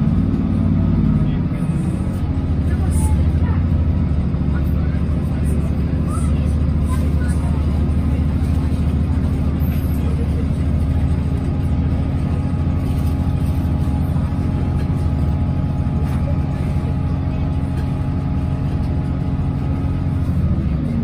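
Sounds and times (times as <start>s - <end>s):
moving train running noise: 0.0s - 21.0s
train diesel engine drone: 0.0s - 21.0s.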